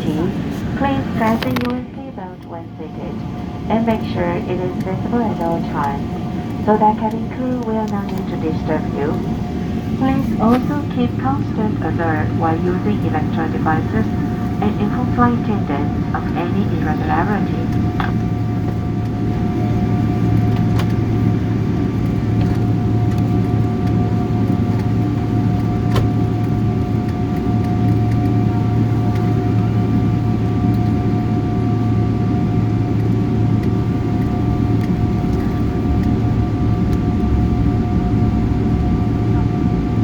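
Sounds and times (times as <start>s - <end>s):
jet engine rumble: 0.0s - 40.0s
steady whining tones: 0.0s - 40.0s.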